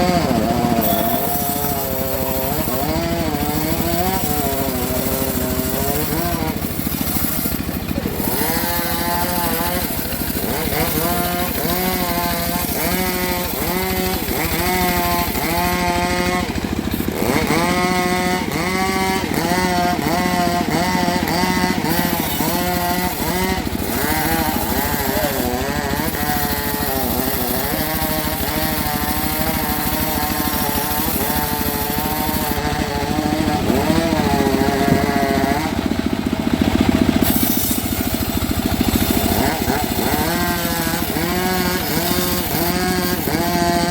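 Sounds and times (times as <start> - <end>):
petrol saw engine cutting wood: 0.0 - 43.9.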